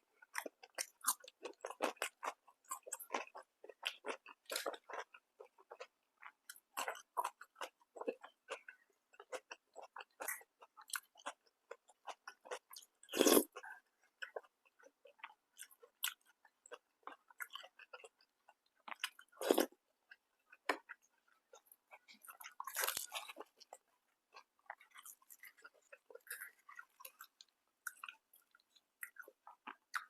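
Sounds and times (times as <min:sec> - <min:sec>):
person chewing with wet mouth sounds: 0:00.1 - 0:30.0.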